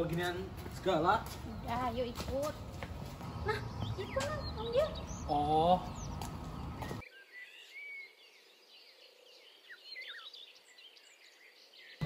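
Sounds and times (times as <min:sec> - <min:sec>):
outdoor noise: 0:00.0 - 0:12.0
small birds chirping and twittering: 0:00.0 - 0:12.0.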